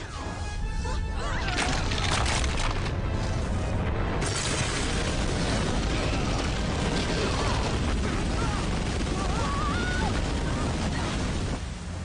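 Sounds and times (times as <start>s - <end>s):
crashing rubble and debris: 1.4s - 12.0s.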